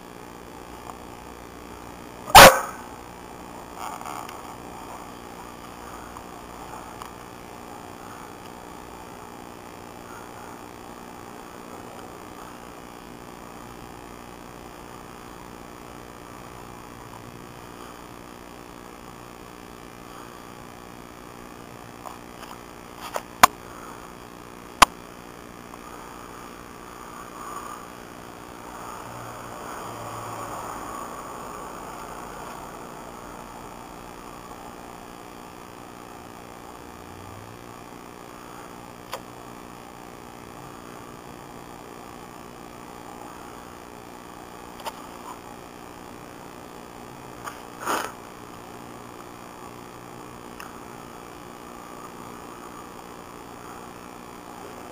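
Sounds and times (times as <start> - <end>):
background hiss: 0.0 - 54.9
faint hum: 0.0 - 54.9.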